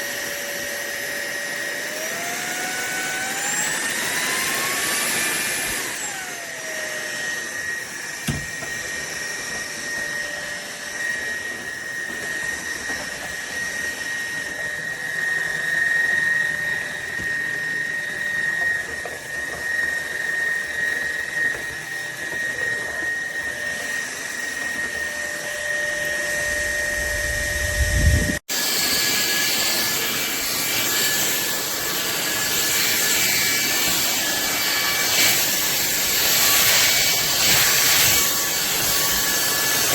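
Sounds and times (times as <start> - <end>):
stick vacuum cleaner running: 0.0 - 39.9.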